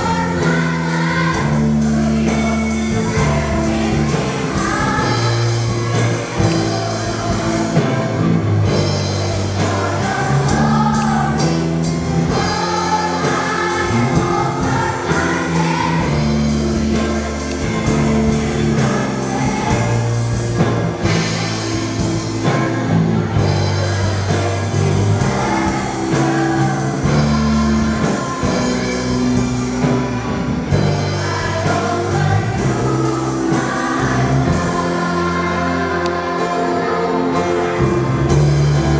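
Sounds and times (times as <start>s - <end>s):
children's choir singing a hymn: 0.0s - 38.9s.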